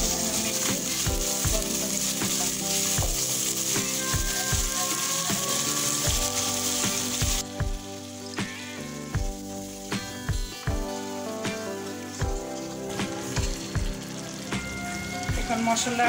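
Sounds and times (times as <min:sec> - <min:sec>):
onions sizzling in oil: 0:00.0 - 0:16.0
wooden spoon stirring pot: 0:00.0 - 0:16.0.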